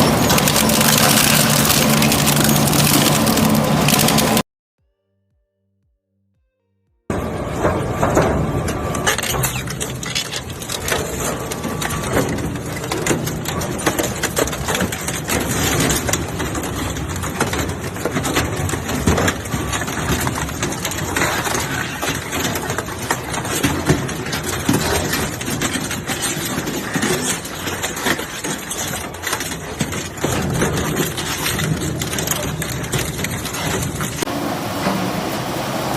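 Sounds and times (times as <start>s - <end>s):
metal shredder grinding scrap: 0.0s - 4.4s, 7.1s - 35.9s.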